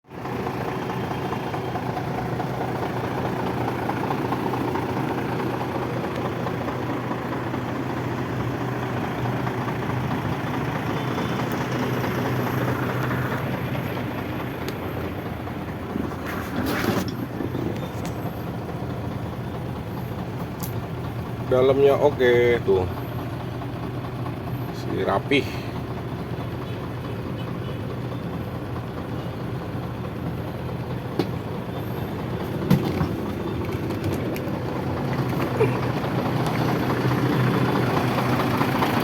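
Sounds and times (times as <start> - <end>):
truck diesel engine idling: 0.0 - 39.0.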